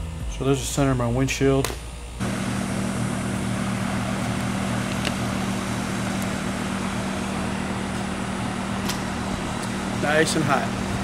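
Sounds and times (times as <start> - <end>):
mechanical drone with hiss: 0.0 - 11.0.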